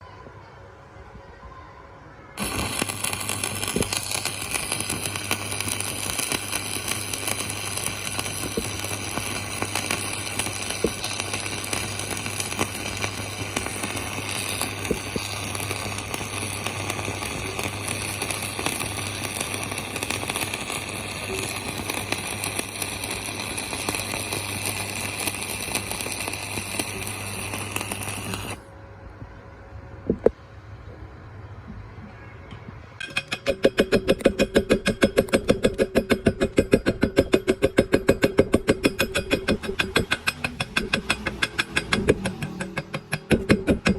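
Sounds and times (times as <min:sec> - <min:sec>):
welding arc crackling: 0:02.4 - 0:28.7, 0:33.0 - 0:43.9.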